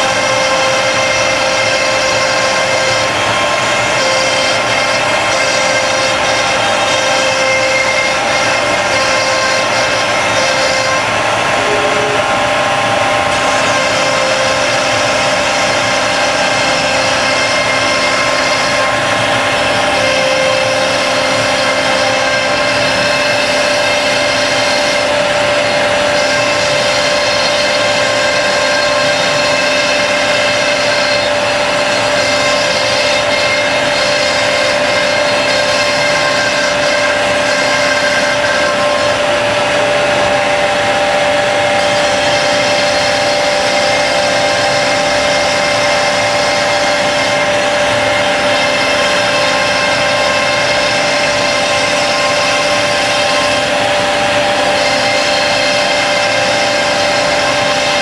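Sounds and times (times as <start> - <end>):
dust extractors running: 0.0 - 58.0
router spindle whining while cutting: 0.0 - 58.0.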